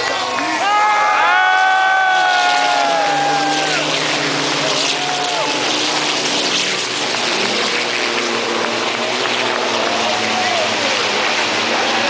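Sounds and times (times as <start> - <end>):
racing truck engines roaring: 0.0 - 12.0.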